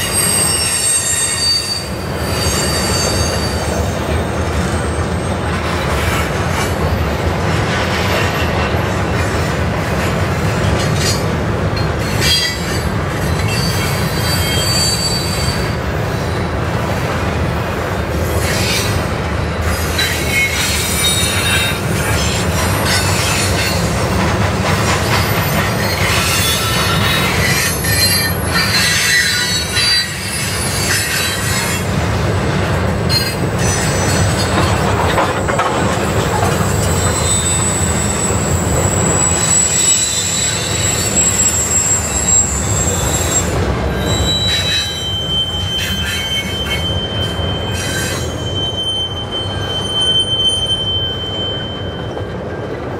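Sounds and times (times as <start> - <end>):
steel wheels squealing on rail: 0.0 - 17.0, 18.1 - 52.9
train cars rumbling and clanking: 0.0 - 52.9.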